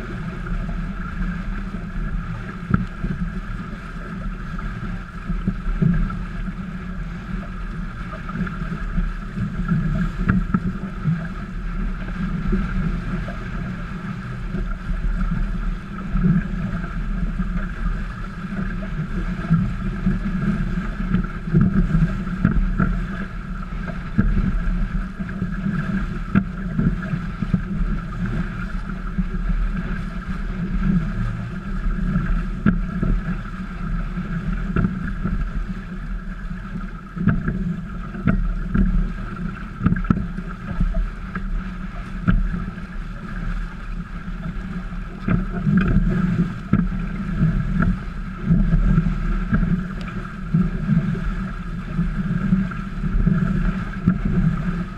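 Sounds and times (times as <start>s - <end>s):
water rushing along boat hulls: 0.0s - 54.9s
wind buffeting microphone: 0.0s - 54.9s.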